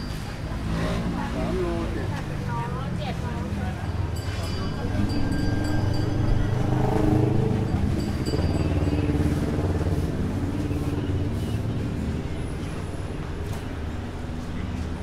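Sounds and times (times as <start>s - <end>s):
vehicle engine running: 0.1s - 15.0s.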